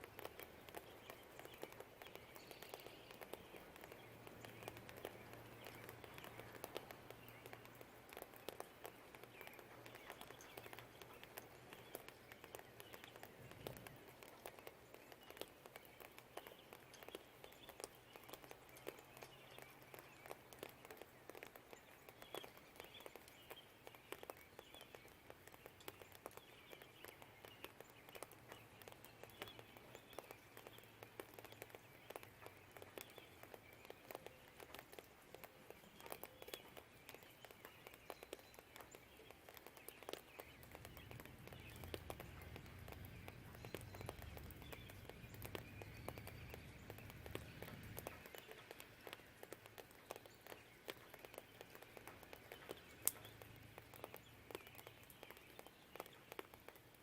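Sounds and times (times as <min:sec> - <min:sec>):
distant birdsong: 0:00.0 - 0:57.0
light rain dripping: 0:00.0 - 0:57.0.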